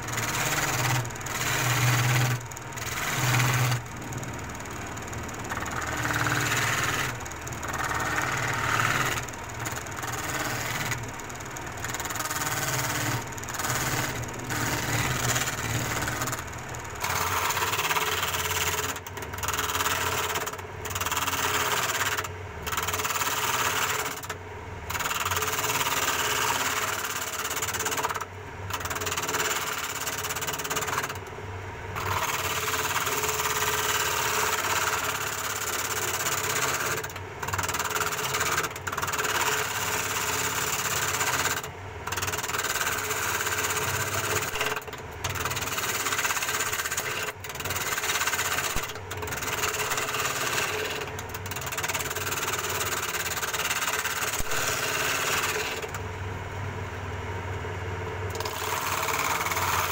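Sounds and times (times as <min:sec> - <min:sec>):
wood lathe motor hum: 0:00.0 - 0:24.3, 0:31.9 - 0:56.0, 0:58.3 - 0:59.9
turning tool cutting wood: 0:00.0 - 0:31.2, 0:32.0 - 0:56.0, 0:58.3 - 0:59.9.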